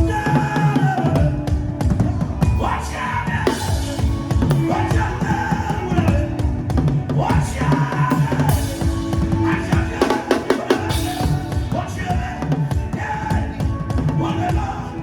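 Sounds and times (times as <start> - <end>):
fast drumming: 0.0 - 14.8
steady bass line: 0.0 - 15.0.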